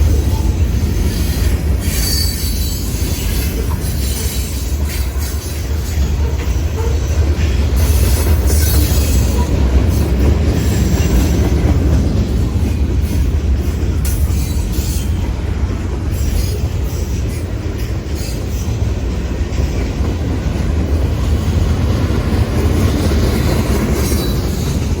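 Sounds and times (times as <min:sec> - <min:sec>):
wheels clicking and squealing: 0:00.0 - 0:15.4, 0:16.1 - 0:19.0, 0:22.6 - 0:25.0.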